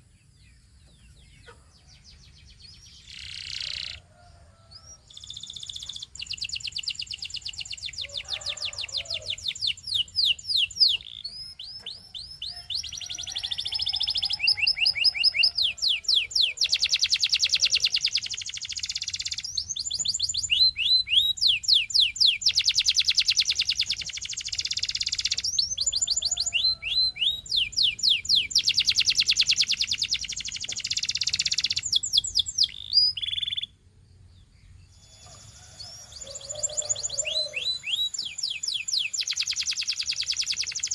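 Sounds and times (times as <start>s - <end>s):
canary singing: 1.0s - 33.8s, 34.8s - 40.9s.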